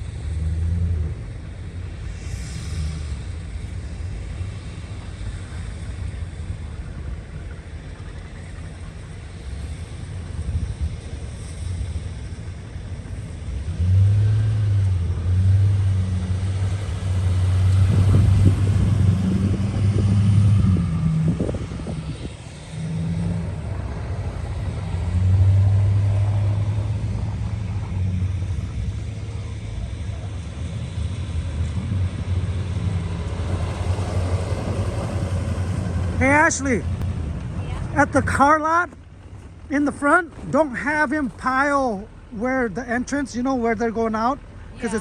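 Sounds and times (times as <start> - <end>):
vehicle engine humming: 0.0 - 45.0.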